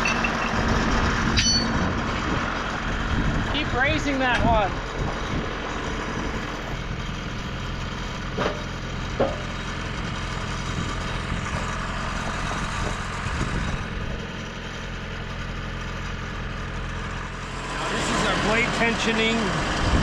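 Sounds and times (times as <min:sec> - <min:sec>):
sawmill engine idling: 0:00.0 - 0:20.0.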